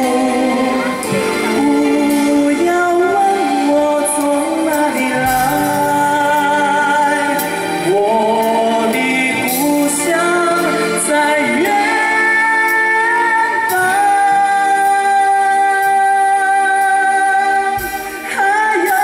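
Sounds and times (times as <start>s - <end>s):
live band accompaniment: 0.0s - 19.0s
man singing a slow ballad: 0.0s - 19.0s.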